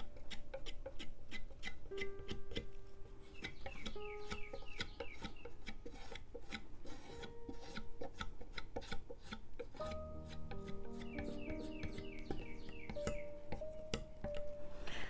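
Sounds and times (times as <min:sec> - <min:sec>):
palette knife scraping wood panel: 0:00.0 - 0:13.8.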